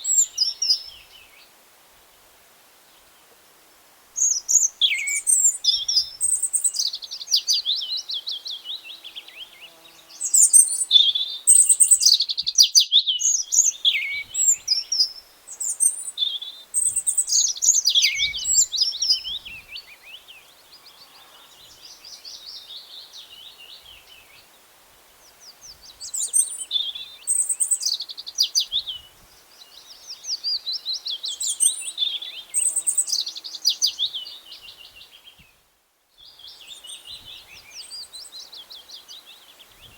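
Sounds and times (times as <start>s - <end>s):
songbirds chirping and trilling: 0.0s - 1.6s, 4.2s - 35.6s, 36.2s - 39.9s.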